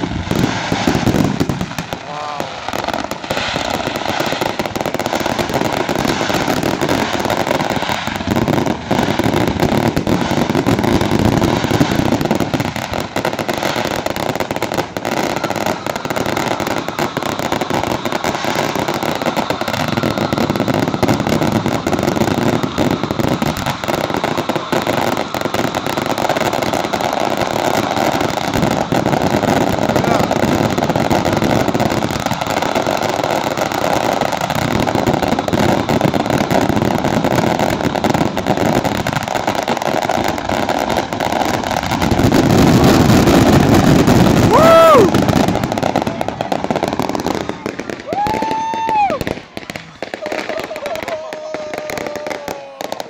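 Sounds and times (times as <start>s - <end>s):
fireworks barrage pops and bangs: 0.0s - 53.0s.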